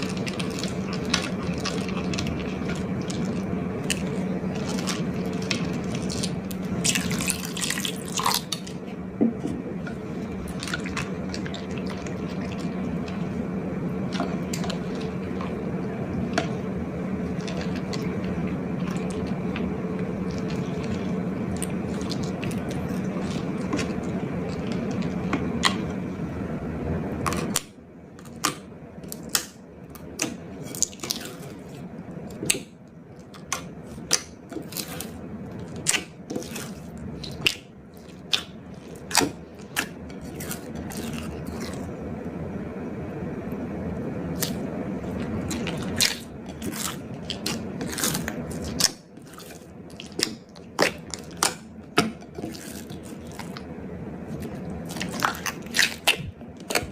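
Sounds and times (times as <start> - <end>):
sticky slime squishing: 0.0 - 26.3, 27.1 - 42.1, 44.3 - 56.9
steady running noise with hum: 0.0 - 56.9.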